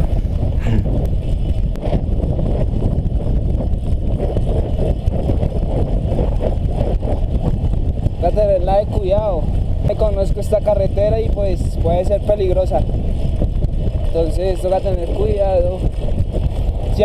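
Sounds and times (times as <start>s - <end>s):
wind rumble on the microphone: 0.0s - 17.0s.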